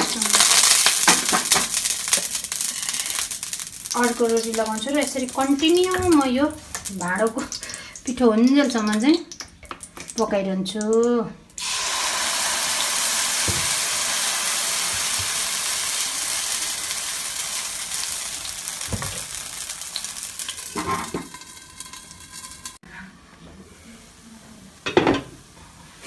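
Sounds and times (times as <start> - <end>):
batter sizzling on pan: 0.0 - 10.2, 11.6 - 22.8.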